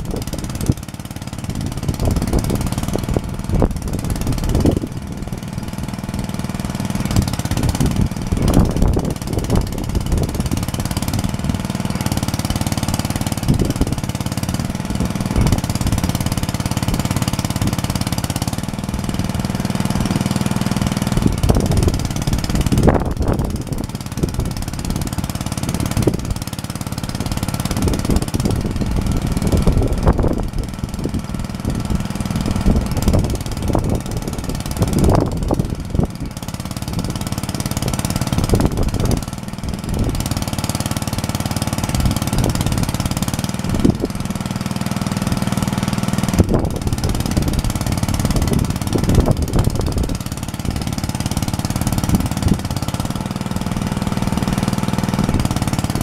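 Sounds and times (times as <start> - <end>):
small tractor engine running: 0.0 - 56.0.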